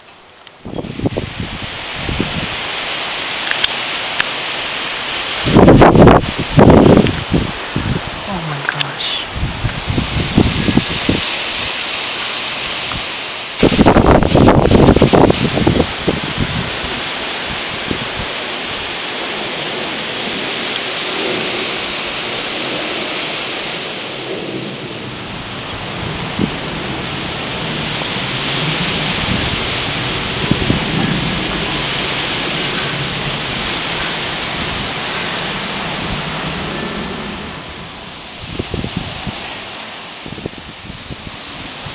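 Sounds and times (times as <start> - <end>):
wind rushing through trees: 0.0 - 41.9
wind buffeting microphone: 0.6 - 3.0, 5.2 - 11.9, 12.8 - 41.9.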